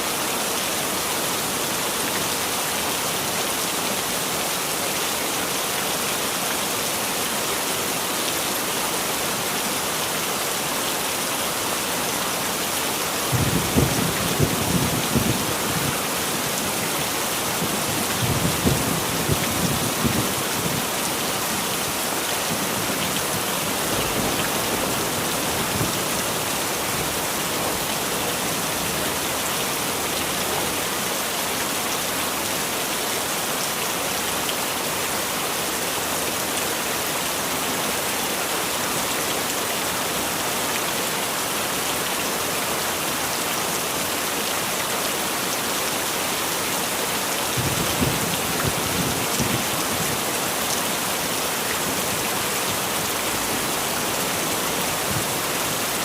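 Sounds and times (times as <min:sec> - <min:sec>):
heavy rain hissing: 0:00.0 - 0:34.9, 0:35.6 - 0:56.0.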